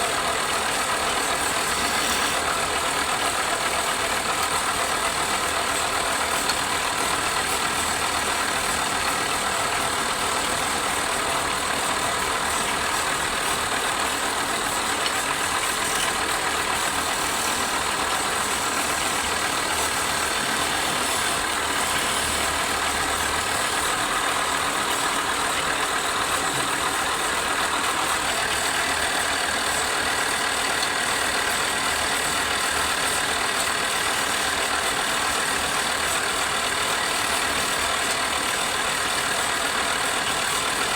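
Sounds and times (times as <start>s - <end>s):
wood lathe whirring: 0.0s - 40.9s.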